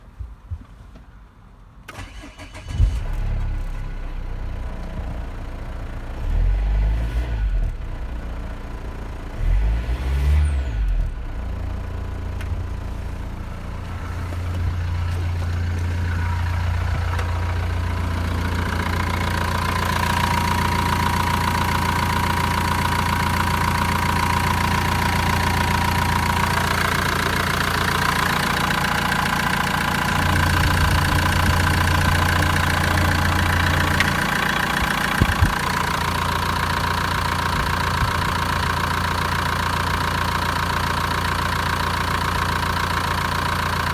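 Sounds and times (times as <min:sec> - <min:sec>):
diesel engine starting and revving: 0:01.9 - 0:43.9.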